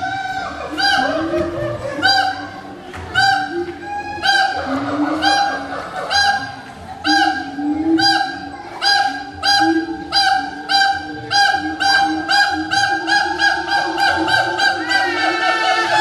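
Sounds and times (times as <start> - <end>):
low steady ape call: 0.0 - 16.0
ape honking calls: 3.1 - 16.0.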